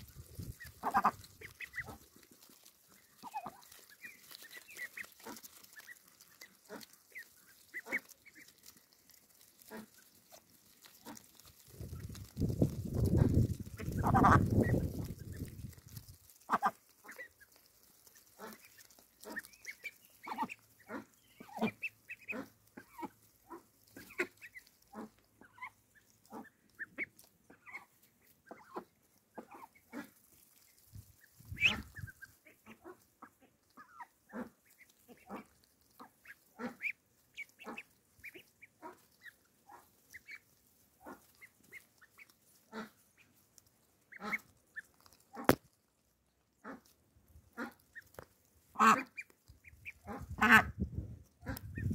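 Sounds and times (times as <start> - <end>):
ducklings pecking: 0.0 - 51.9.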